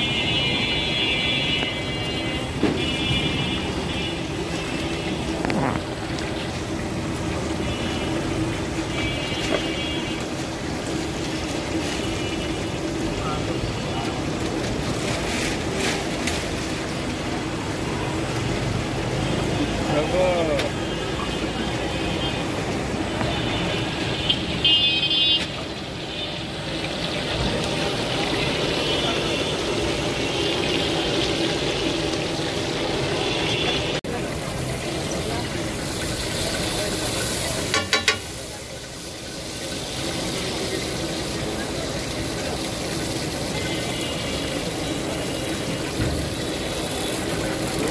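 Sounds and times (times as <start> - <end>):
chicken sizzling in oil: 0.0 - 47.9
street traffic: 0.0 - 47.9.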